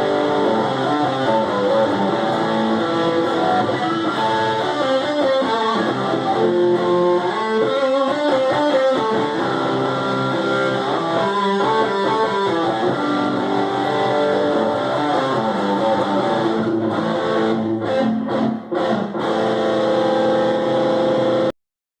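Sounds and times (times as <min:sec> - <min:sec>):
electric guitar playing: 0:00.0 - 0:21.5.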